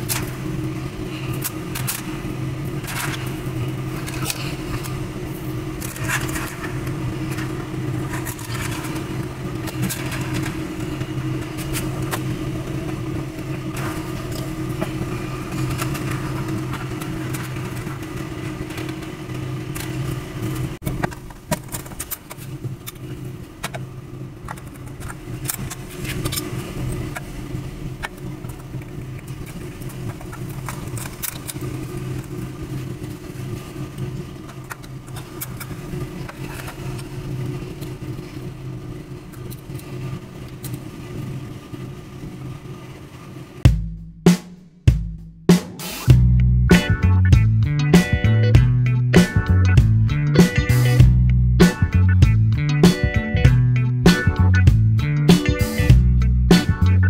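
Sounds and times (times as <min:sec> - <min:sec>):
low motor hum: 0:00.0 - 0:45.5, 0:46.1 - 0:57.0.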